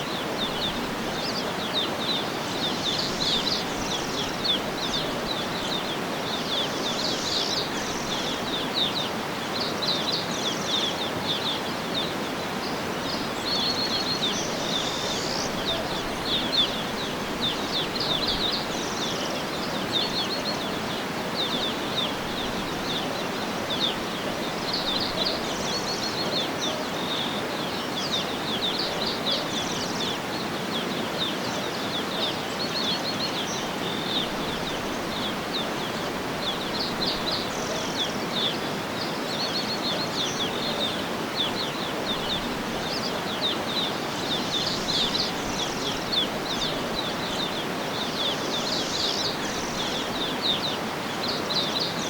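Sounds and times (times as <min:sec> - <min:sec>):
birds chirping in trills: 0:00.0 - 0:52.0
outdoor ambience hiss: 0:00.0 - 0:52.0.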